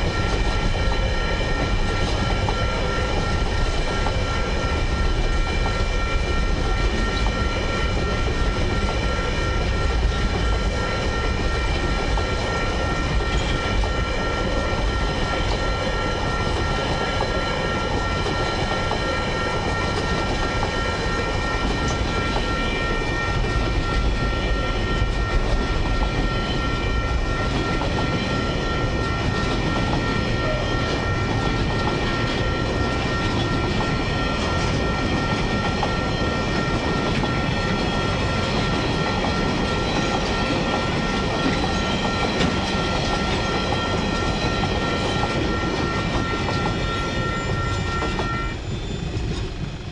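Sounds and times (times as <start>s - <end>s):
high-pitched ringing tones: 0.0s - 49.9s
train wheels clacking on rails: 0.0s - 49.9s.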